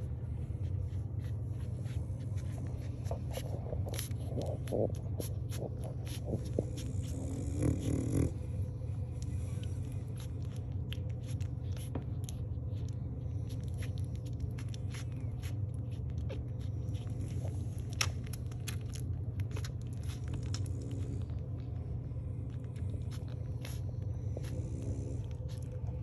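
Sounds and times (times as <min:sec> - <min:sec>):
low hum: 0:00.0 - 0:26.0
puppies suckling: 0:00.0 - 0:26.0.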